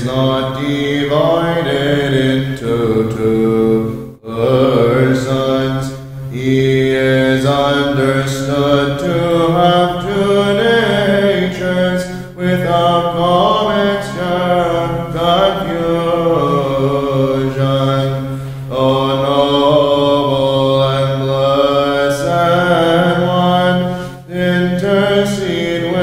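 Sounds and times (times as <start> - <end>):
low sung drone: 0.0 - 26.0
voices chanting a melody: 0.0 - 26.0.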